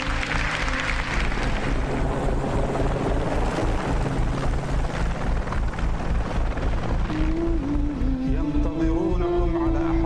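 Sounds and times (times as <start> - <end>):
helicopter engine and rotors: 0.0 - 10.0
music with low beat: 0.0 - 10.0.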